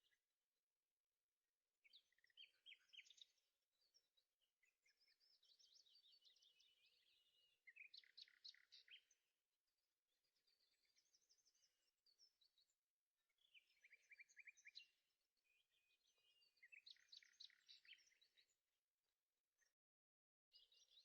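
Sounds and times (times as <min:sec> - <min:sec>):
faint birdsong chirps and trills: 0:00.0 - 0:21.0.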